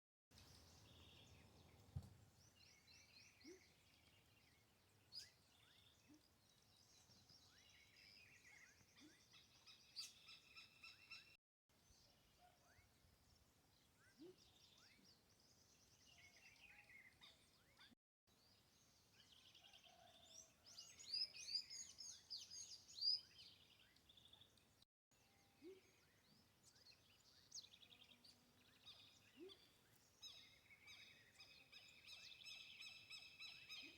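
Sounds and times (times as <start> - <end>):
wild birds chirping and trilling: 0.4 - 33.9.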